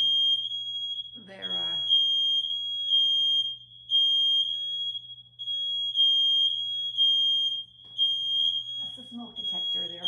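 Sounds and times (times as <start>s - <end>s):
smoke detector alarm beeping: 0.0s - 10.0s.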